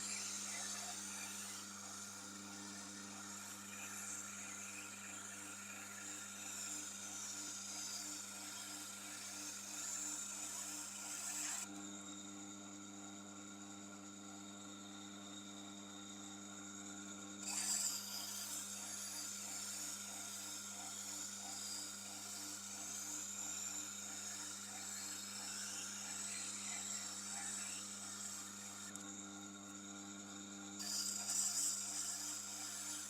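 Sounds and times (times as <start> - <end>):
sharpening machine motor hum: 0.0 - 33.0.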